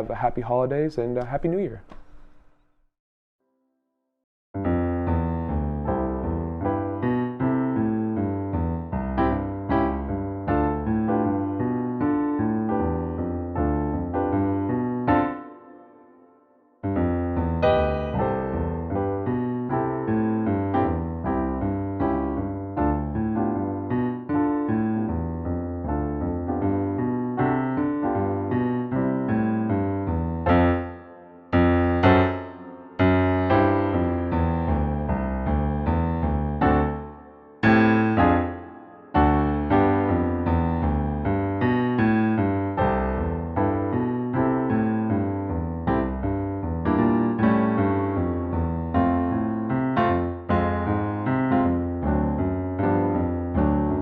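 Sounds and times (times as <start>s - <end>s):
solo piano music: 4.6s - 54.0s.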